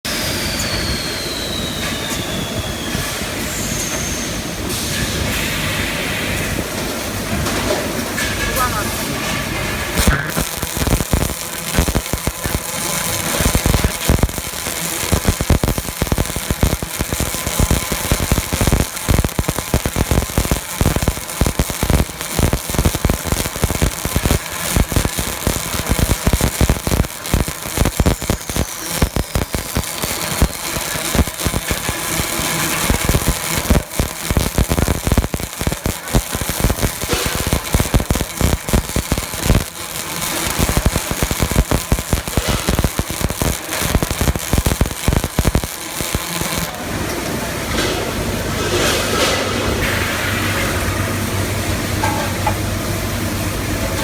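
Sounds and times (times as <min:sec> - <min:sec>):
welding crackle: 0:00.1 - 0:54.0.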